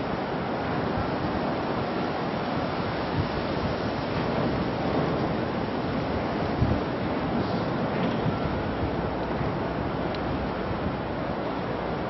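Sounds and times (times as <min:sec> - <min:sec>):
rushing wind: 0:00.0 - 0:12.0
water noise: 0:00.0 - 0:12.0
wind buffeting microphone: 0:00.0 - 0:12.0.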